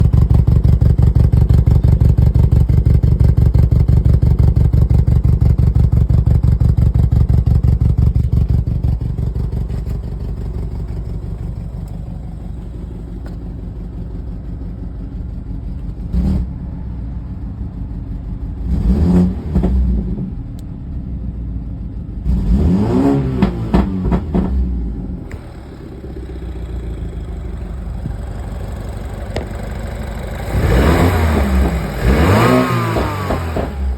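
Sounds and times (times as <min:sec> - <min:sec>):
misfiring car engine idling: 0:00.0 - 0:18.8, 0:23.6 - 0:33.9.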